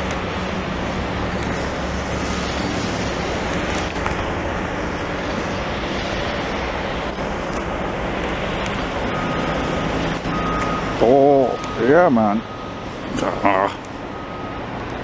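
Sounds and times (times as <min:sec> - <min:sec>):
heavy trucks and machinery running: 0:00.0 - 0:15.0
low engine hum: 0:00.0 - 0:15.0
traffic noise: 0:00.0 - 0:15.0.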